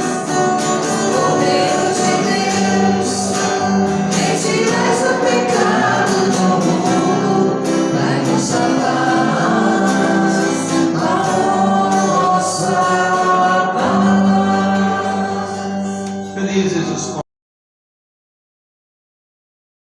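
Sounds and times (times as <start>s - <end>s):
group singing a hymn: 0.0s - 16.2s
instrumental accompaniment: 0.0s - 17.2s.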